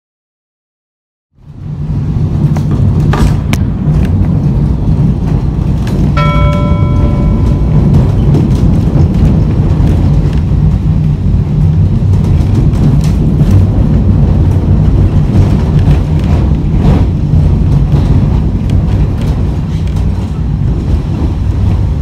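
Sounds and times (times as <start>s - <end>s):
tram wheels rumbling: 1.4s - 22.0s.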